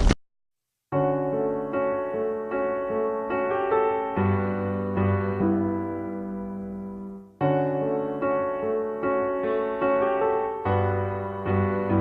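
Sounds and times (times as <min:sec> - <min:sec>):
soft piano chords: 0:00.9 - 0:12.0.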